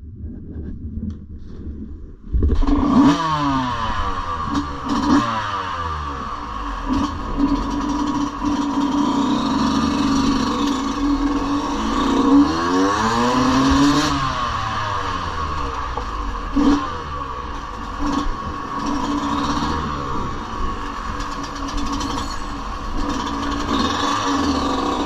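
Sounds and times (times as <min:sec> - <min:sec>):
dirt bike engine revving: 0:02.5 - 0:25.0.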